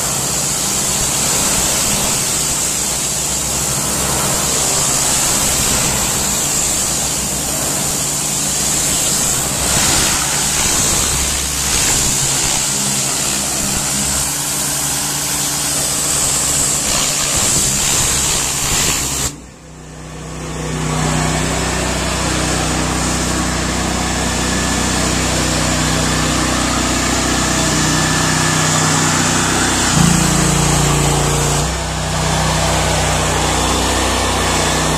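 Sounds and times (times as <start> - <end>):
pressure washer jet hissing: 0.0 - 19.4, 21.4 - 34.9
engine running: 0.0 - 34.9.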